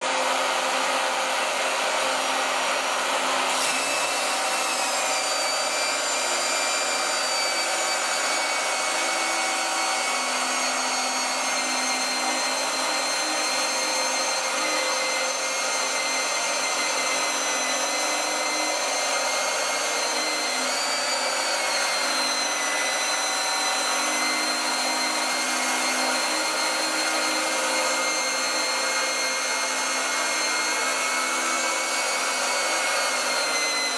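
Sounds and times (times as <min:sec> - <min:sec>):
small electric motor whining: 0:00.0 - 0:33.9.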